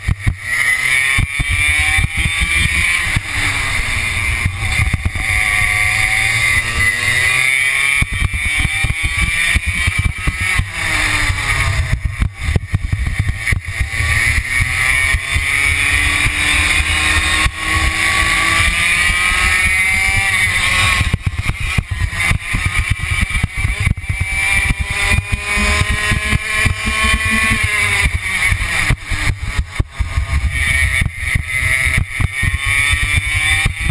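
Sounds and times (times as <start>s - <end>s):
kart engine revving: 0.0s - 33.9s.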